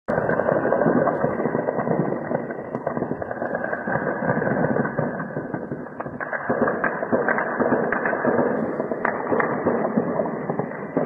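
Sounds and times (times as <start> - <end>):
distant rapid gunfire: 0.1 - 11.0
sharp gunshot reports: 0.1 - 11.0.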